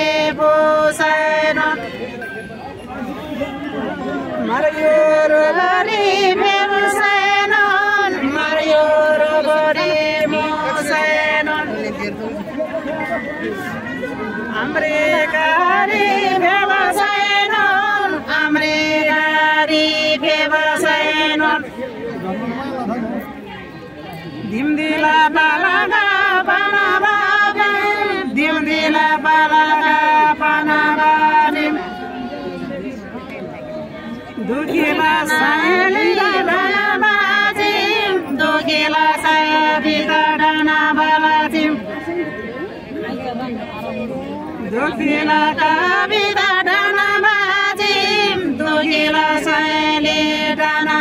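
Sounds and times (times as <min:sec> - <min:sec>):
women singing folk song: 0:00.0 - 0:02.2, 0:04.1 - 0:21.8, 0:24.4 - 0:32.3, 0:34.3 - 0:42.8, 0:44.6 - 0:51.0.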